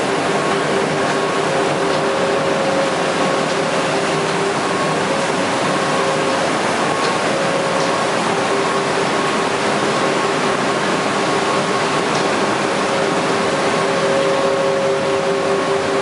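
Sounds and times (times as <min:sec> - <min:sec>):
machine whir and air rush: 0:00.0 - 0:16.0.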